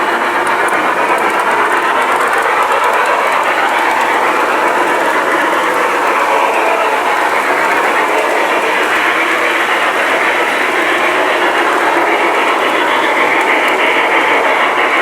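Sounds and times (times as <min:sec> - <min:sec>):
model train rolling: 0:00.0 - 0:15.0.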